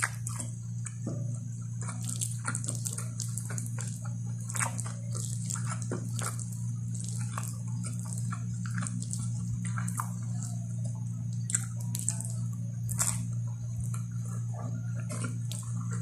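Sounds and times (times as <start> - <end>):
fingers squishing wet rice: 0.0 - 16.0
steady low hum: 0.0 - 16.0.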